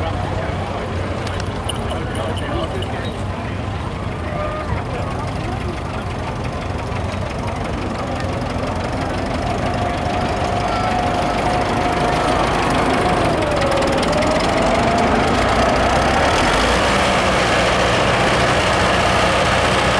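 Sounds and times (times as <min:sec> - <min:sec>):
tractor engines running: 0:00.0 - 0:19.9.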